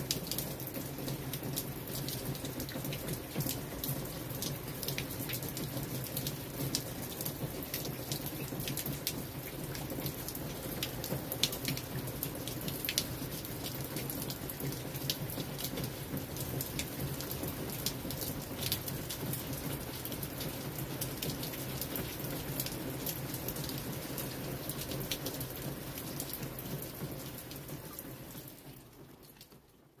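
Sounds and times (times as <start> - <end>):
raindrop splashes: 0.0 - 29.9
rain on brick pavement: 0.0 - 30.0.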